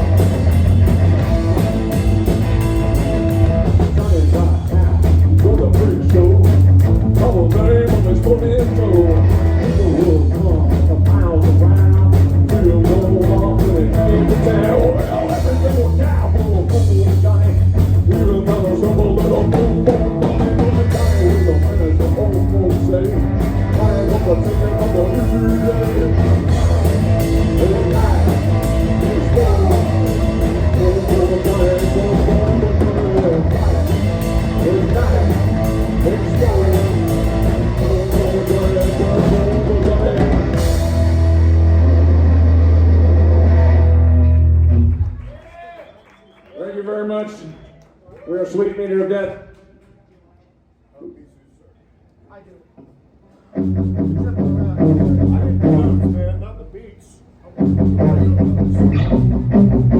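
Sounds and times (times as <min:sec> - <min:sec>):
live rock band playing: 0:00.0 - 0:45.2, 0:53.5 - 0:56.2, 0:57.6 - 0:59.9.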